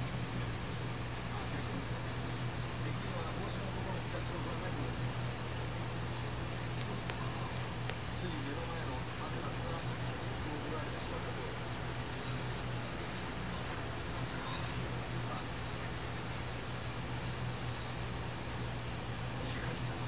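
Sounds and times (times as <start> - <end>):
crickets chirping: 0.0 - 20.0
steady low hum: 0.0 - 20.0.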